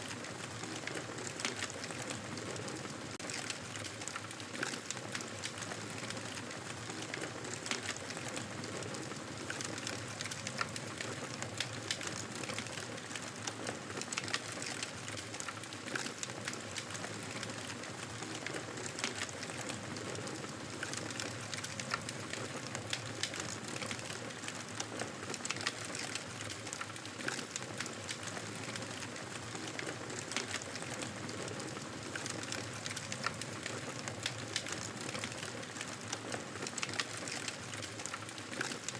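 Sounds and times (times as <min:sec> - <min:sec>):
wood fire crackling and hissing: 0:00.0 - 0:38.9.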